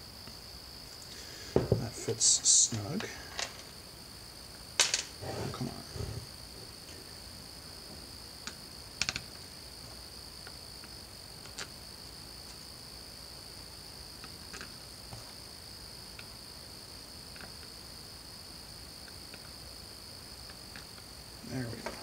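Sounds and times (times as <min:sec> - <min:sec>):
steady high-pitched whine: 0:00.0 - 0:22.0.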